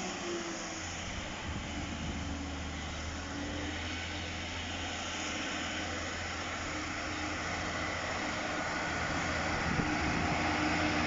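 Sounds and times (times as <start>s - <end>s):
train diesel engines droning: 0.0s - 11.0s.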